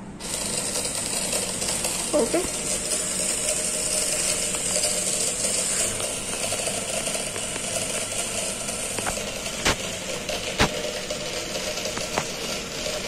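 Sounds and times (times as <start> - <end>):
small gear motors whirring: 0.2 - 13.0.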